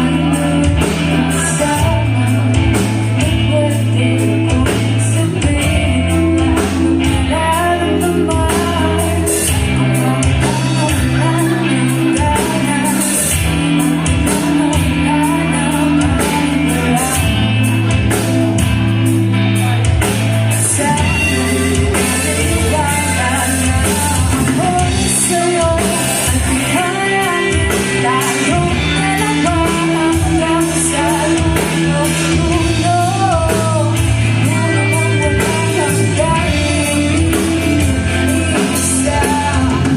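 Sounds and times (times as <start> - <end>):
bass guitar: 0.0 - 39.9
drums: 0.0 - 39.9
guitar: 0.0 - 39.9
person singing: 0.0 - 39.9.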